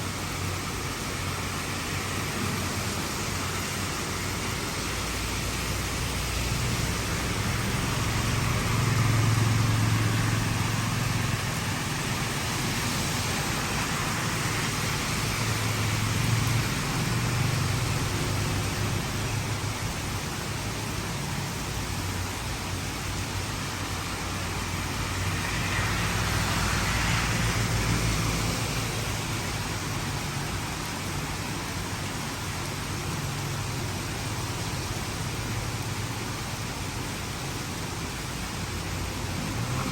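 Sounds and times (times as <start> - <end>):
heavy rain falling: 0.0 - 39.9
vehicles passing on wet road: 0.0 - 39.9.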